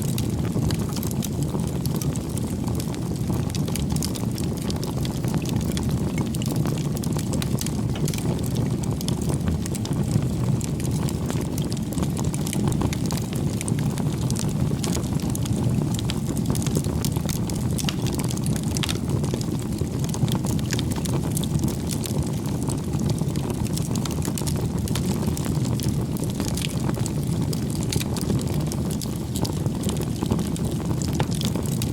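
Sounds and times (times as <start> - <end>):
low rush of flames: 0.0 - 31.9
wood crackles and pops: 0.0 - 31.9.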